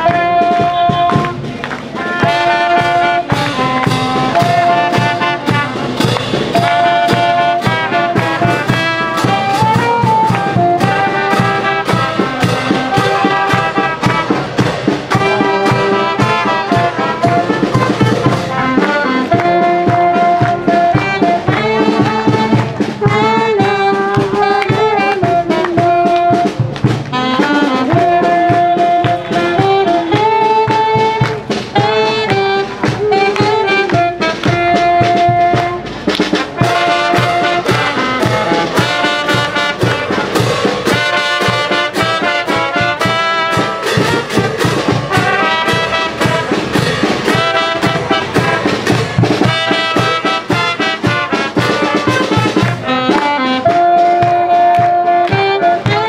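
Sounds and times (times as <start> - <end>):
drums and cymbals beat: 0.0 - 56.0
trumpets and trombones melody: 0.0 - 56.0.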